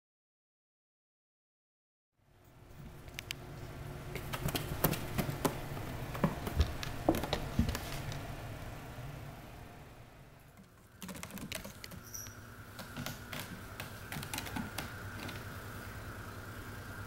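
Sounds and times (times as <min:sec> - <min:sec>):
low steady hum: 0:02.2 - 0:17.0.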